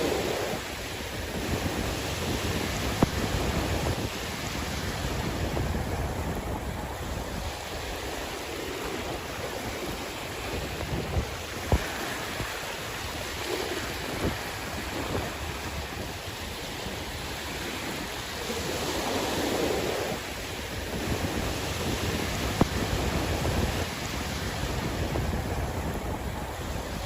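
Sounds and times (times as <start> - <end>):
sea waves washing ashore: 0.0 - 27.0
wind on microphone: 0.0 - 27.0.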